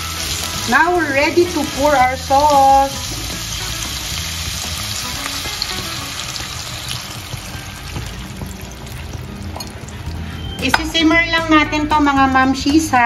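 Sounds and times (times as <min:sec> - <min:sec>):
sauce sizzling in a wok: 0:00.0 - 0:10.6.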